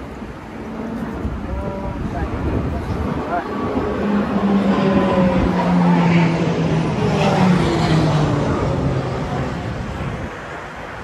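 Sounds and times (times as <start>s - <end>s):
passing engine hum: 0.0s - 11.0s
road traffic rush: 0.0s - 11.0s.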